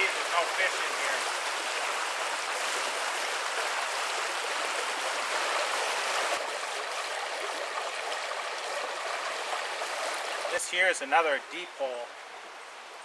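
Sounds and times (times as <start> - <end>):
brook rushing: 0.0 - 11.2.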